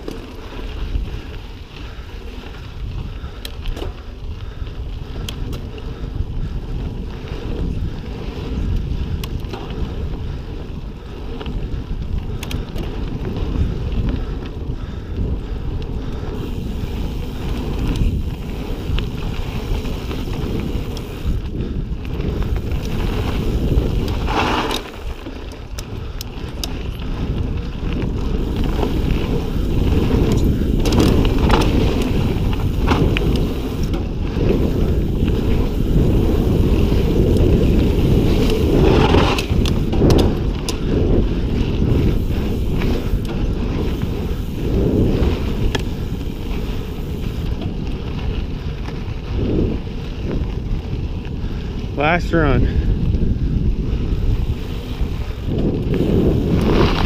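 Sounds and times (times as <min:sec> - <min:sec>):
bike tyres rumbling on dirt: 0:00.0 - 0:57.0
wind buffeting microphone: 0:00.0 - 0:57.0.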